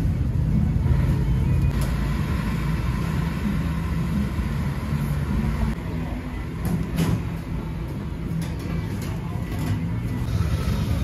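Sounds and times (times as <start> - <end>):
motor traffic rumble: 0.0 - 11.0.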